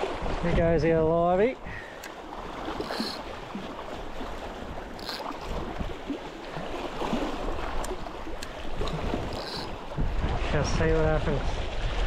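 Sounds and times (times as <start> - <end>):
wind buffeting microphone: 0.0 - 12.0
sea water washing around rocks: 1.6 - 12.0.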